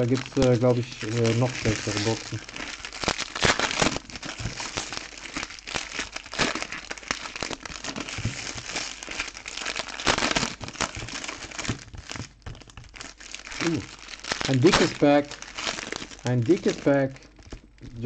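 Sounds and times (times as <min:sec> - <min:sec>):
foil wrappers crinkling: 0:00.0 - 0:18.0.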